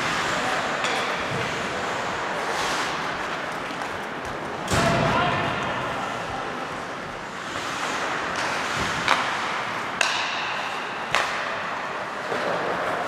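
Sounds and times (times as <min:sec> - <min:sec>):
hockey sticks and puck clacking: 0:00.0 - 0:13.0.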